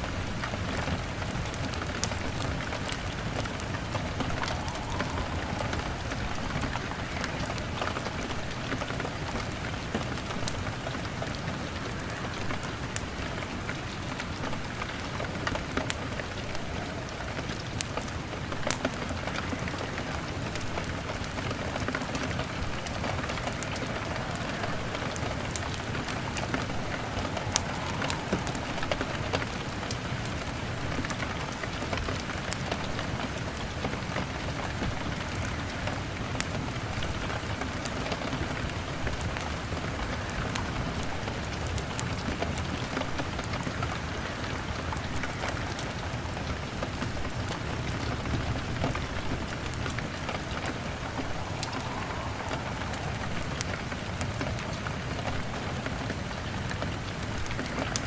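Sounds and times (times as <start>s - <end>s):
rain on a window: 0.0s - 58.0s
log fire crackling: 0.1s - 58.0s.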